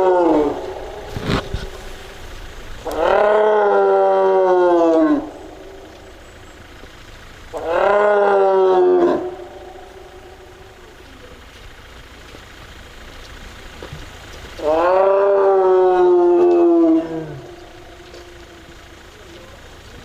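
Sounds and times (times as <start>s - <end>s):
tiger calling: 0.0s - 12.2s, 12.9s - 19.9s.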